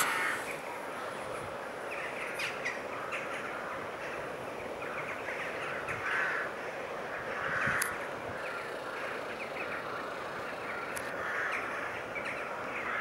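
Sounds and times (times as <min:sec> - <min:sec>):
birds chirping: 0:00.0 - 0:13.0
steady hiss: 0:00.0 - 0:13.0.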